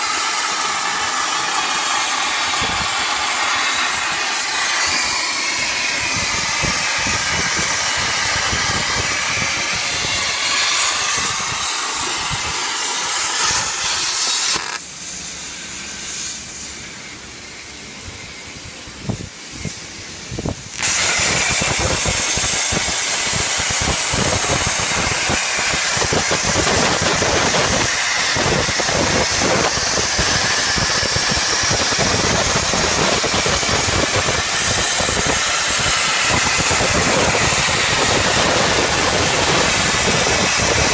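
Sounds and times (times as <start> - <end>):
plasma torch hissing: 0.0 - 40.9.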